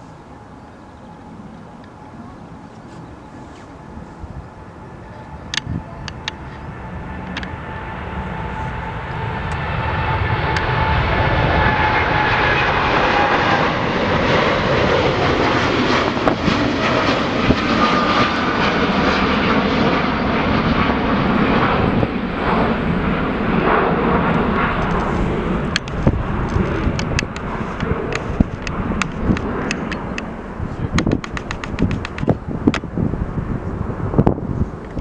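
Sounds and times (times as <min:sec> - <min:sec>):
jet engines passing: 0:00.0 - 0:35.0.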